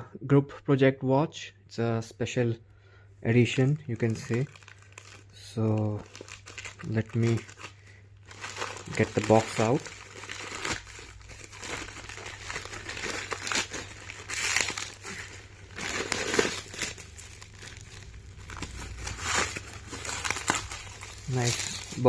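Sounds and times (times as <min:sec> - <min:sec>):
plastic packaging crinkling: 0:03.5 - 0:22.0.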